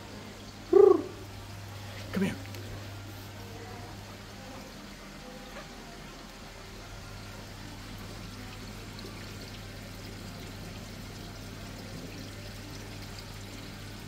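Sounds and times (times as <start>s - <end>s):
water pouring into aquarium: 0.0s - 14.0s.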